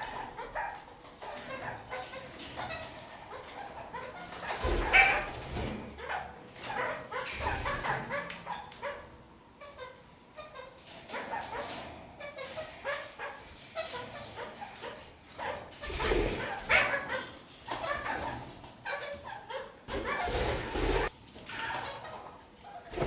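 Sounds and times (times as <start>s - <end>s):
parakeets chattering calls: 0.0s - 23.0s.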